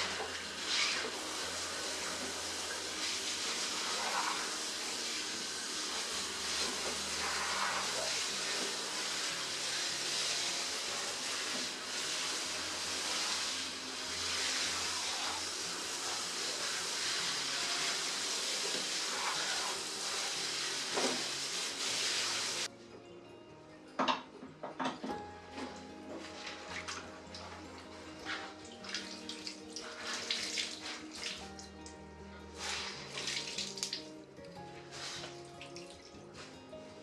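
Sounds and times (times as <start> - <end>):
water spraying and splashing: 0.0 - 22.7, 26.3 - 31.8, 32.5 - 34.1, 34.9 - 36.2.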